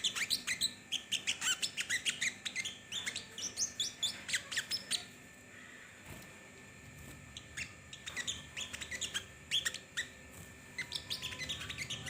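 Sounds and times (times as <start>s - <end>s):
songbird chirping: 0.0s - 6.0s, 7.3s - 12.0s.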